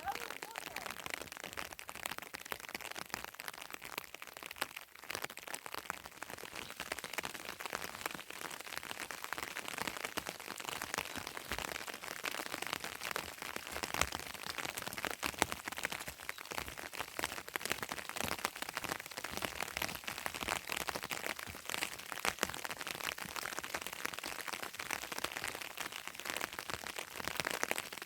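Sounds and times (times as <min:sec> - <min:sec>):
heavy rain pattering: 0:00.0 - 0:28.0.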